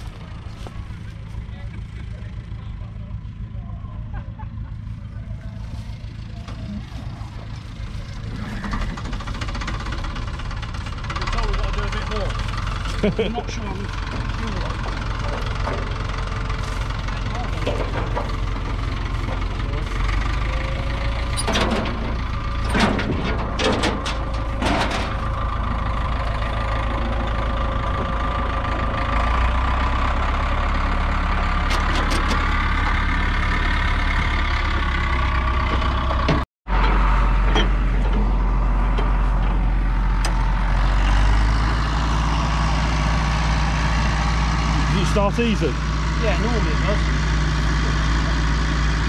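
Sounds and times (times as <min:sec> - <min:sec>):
engine idling: 0:00.0 - 0:49.0.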